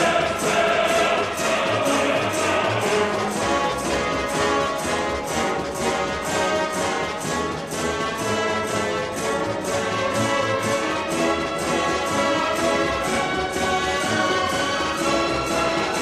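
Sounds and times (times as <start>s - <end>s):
orchestral music with brass: 0.0s - 16.0s.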